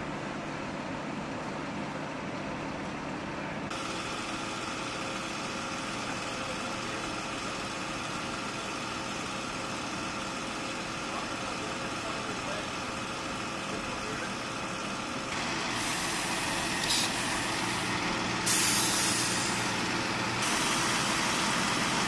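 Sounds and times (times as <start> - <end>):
aircraft engines idling: 0.2 - 22.0.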